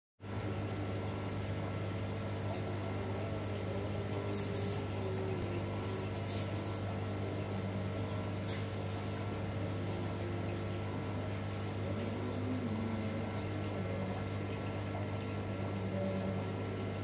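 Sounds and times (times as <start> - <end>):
low electric hum: 0.2 - 17.0.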